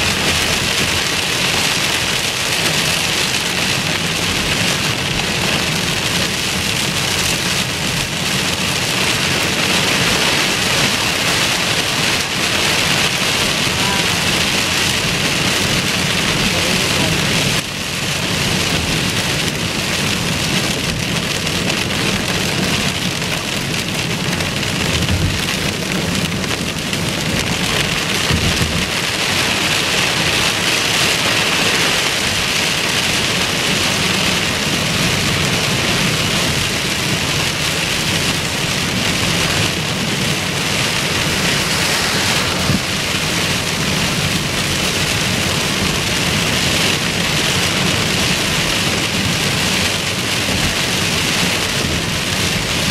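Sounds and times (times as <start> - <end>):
heavy rain on car roof: 0.0 - 52.9
low road noise: 0.0 - 52.9.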